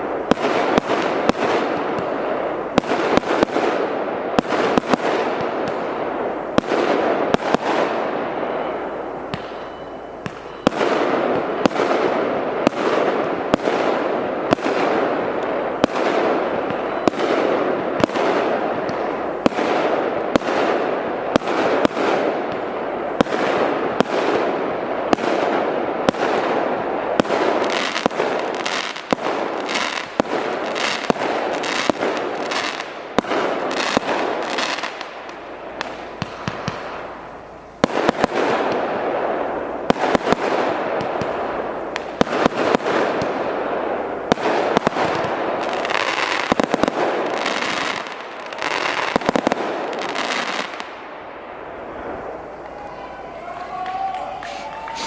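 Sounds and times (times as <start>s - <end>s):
fireworks shots and bursts: 0.0s - 52.8s.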